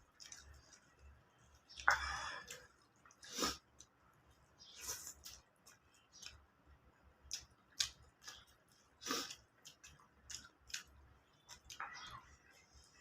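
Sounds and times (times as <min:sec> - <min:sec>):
chewing and mouth smacks: 0:00.0 - 0:04.0, 0:04.6 - 0:06.5, 0:07.2 - 0:12.2.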